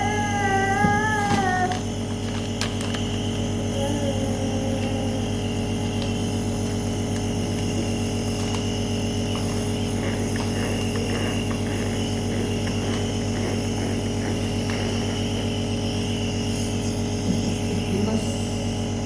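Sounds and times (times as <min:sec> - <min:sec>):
nebulizer motor humming: 0:00.0 - 0:19.0.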